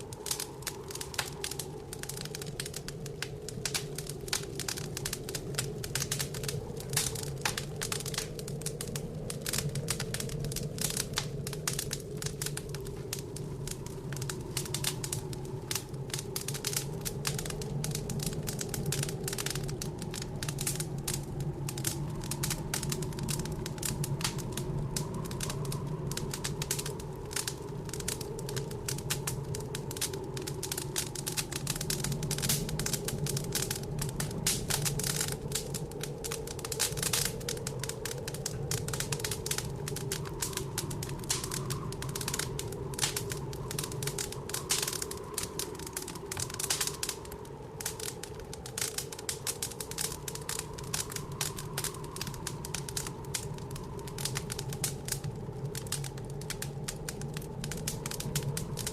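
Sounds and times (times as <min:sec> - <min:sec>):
low whooshing blizzard wind: 0:00.0 - 0:58.9
wood fire crackling: 0:00.0 - 0:58.9.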